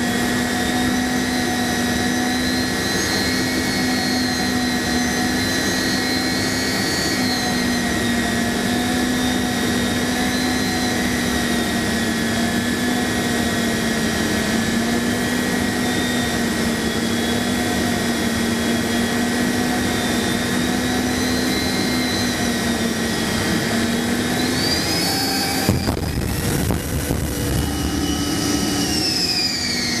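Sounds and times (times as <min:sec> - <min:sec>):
jet engine whine: 0:00.0 - 0:30.0.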